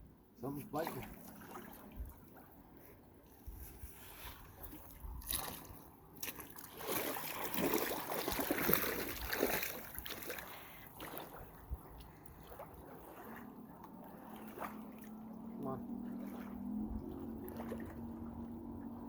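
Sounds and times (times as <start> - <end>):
water splashing against a boat: 0.4 - 19.0.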